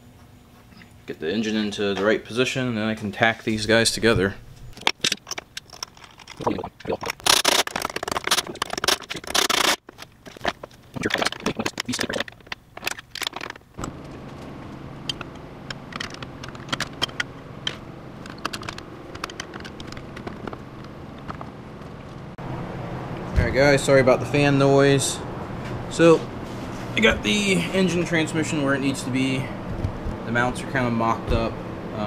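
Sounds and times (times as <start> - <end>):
shop fan humming: 0.0 - 32.0.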